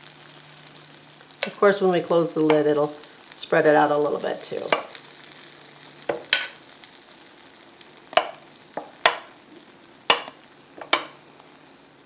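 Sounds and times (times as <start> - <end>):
batter sizzling on hot plates: 0.0 - 12.0.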